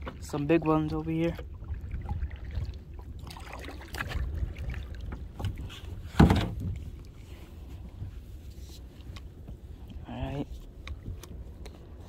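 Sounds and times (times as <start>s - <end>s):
paddle strokes through water: 0.0s - 12.0s
wind rumble on microphone: 0.0s - 12.0s.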